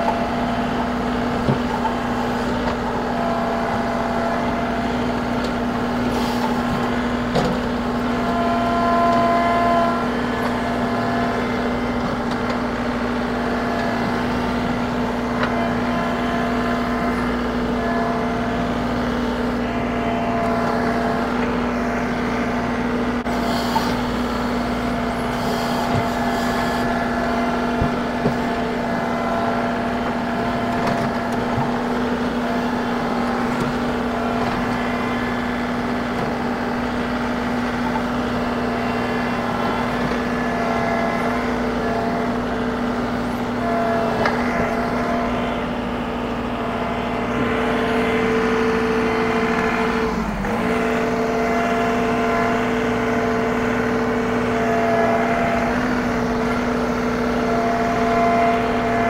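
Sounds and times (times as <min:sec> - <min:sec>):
hydraulic whining tones: 0:00.0 - 0:59.0
tractor diesel engine running: 0:00.0 - 0:59.0.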